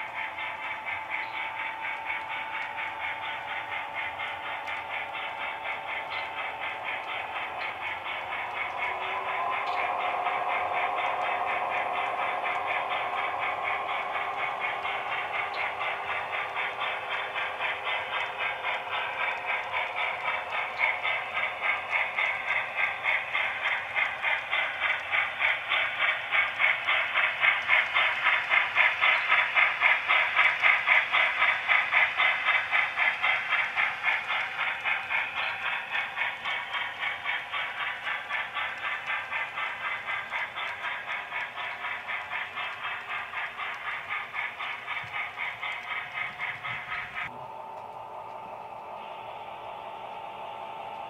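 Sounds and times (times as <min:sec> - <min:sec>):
model train wheels clicking: 0:00.0 - 0:51.0.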